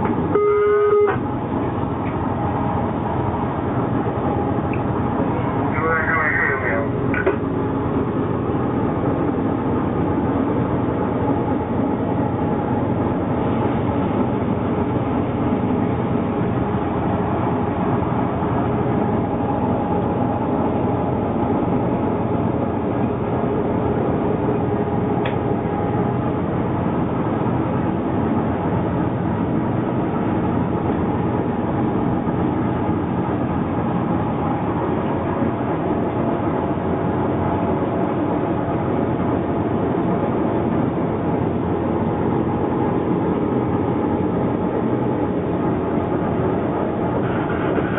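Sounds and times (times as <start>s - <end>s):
diesel locomotive engine drone: 0.0s - 47.9s.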